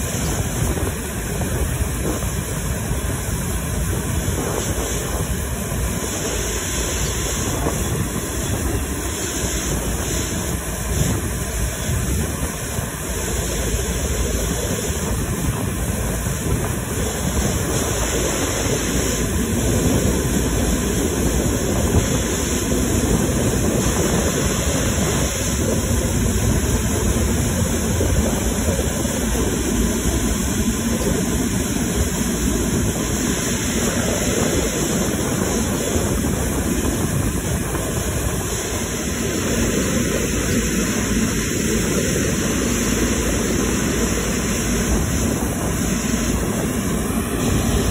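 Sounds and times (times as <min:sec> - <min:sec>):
jet engines at taxi thrust: 0:00.0 - 0:47.9.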